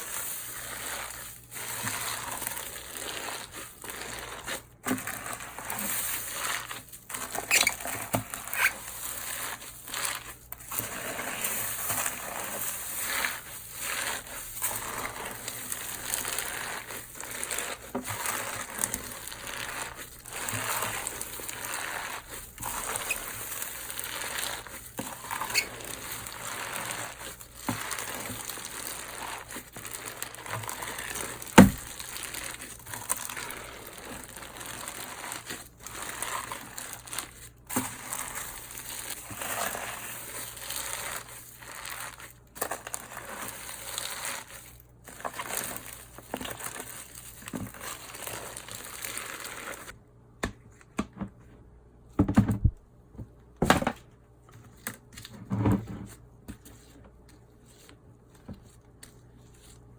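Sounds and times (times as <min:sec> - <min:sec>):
slime crackling as kneaded: 0:00.0 - 0:50.0.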